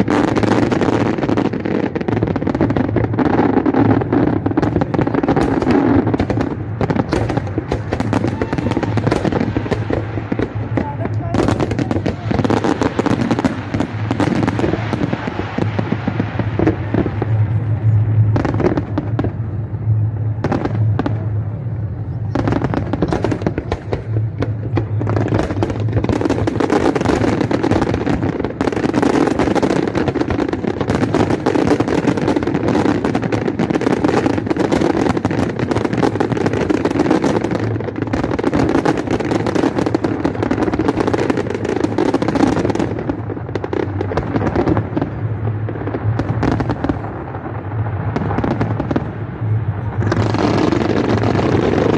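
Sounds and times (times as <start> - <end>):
fireworks bangs and crackle: 0.0 - 51.9.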